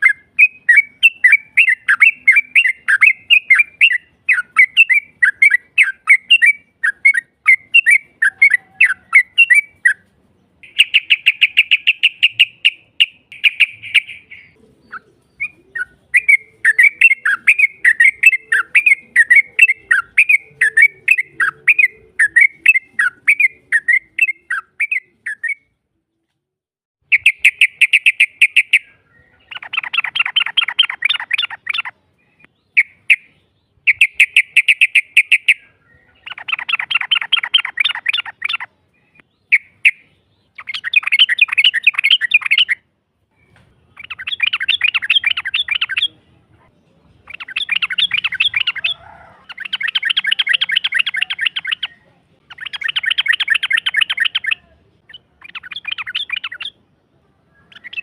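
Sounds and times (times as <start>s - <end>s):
bird chirping notes: 0.0s - 58.0s.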